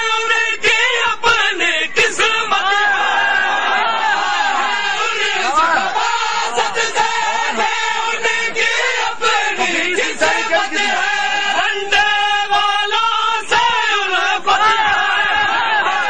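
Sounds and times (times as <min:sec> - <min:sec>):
crowd of men chanting: 0:00.0 - 0:16.0.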